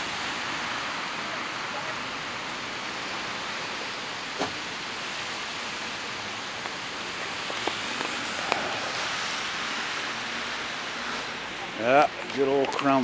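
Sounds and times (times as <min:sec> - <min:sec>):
traffic hiss on wet street: 0:00.0 - 0:13.0.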